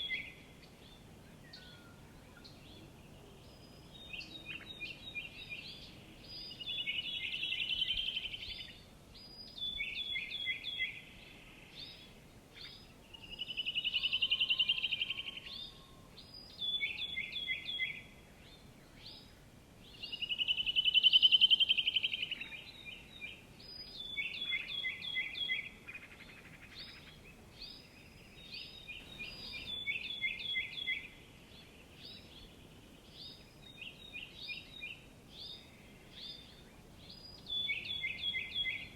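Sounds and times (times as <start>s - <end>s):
faint background hiss: 0.0s - 38.9s
songbird singing with trills: 0.0s - 38.9s.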